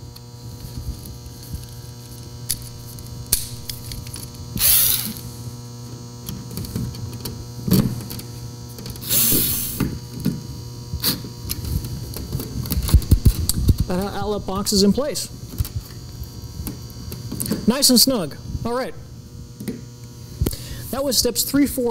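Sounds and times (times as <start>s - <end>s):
electrical hum: 0.0s - 21.9s.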